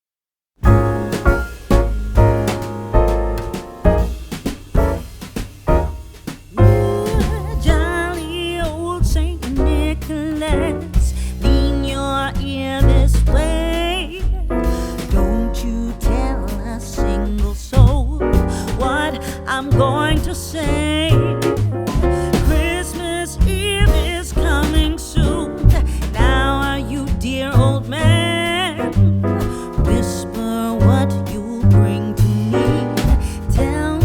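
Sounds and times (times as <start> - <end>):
soul song with piano and bass: 0.6 - 34.0.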